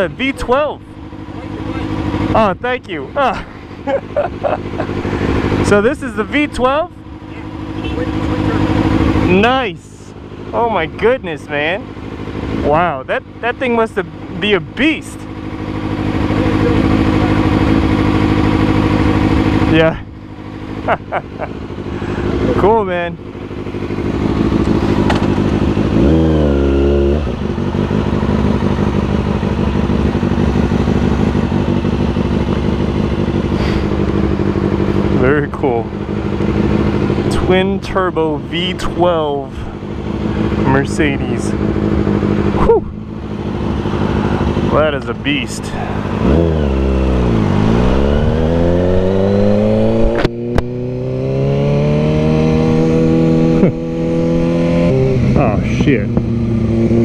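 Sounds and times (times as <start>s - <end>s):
engine idling and revving: 0.0s - 57.0s.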